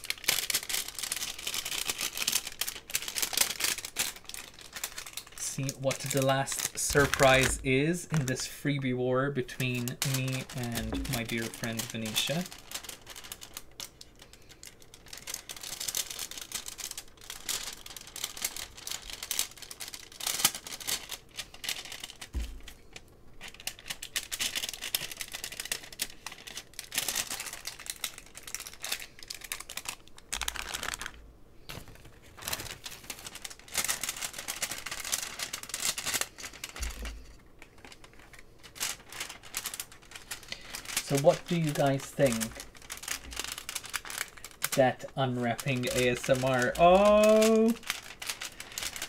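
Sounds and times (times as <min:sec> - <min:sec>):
packaging crinkling and rustling: 0:00.0 - 0:49.0.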